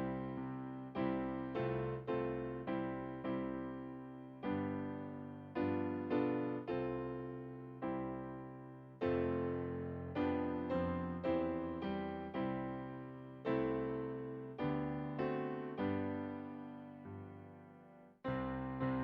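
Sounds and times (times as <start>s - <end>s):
slow solo piano chords: 0.0s - 19.0s.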